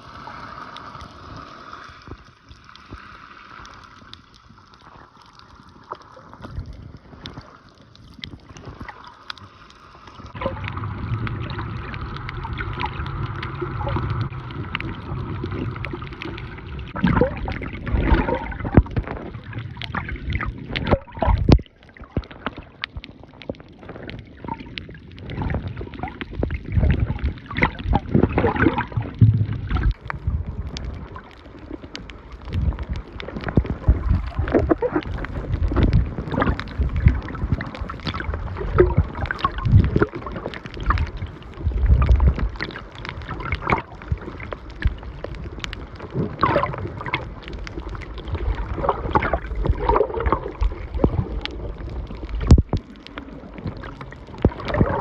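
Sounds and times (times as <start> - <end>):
water sloshing underwater: 0.0 - 55.0.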